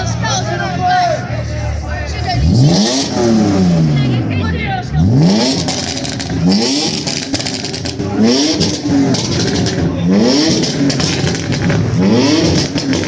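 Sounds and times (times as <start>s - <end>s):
crackling exhaust: 0.0s - 13.0s
vehicle engine revving: 0.0s - 13.0s.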